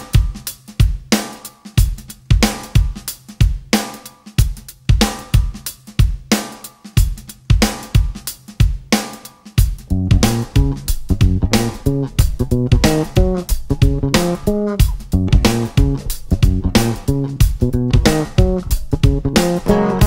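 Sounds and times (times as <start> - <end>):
drum kit playing a steady beat: 0.0 - 20.0.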